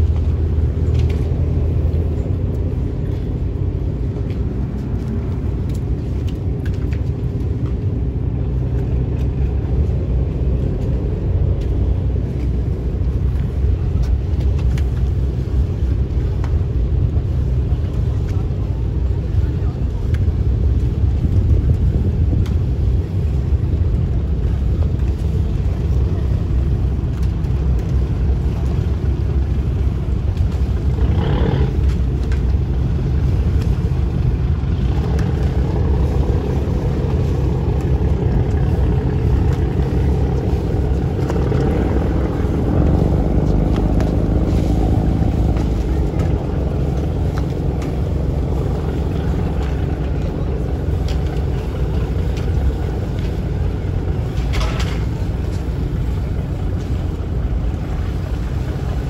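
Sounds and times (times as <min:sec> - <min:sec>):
ship engines rumbling: 0:00.0 - 0:59.0.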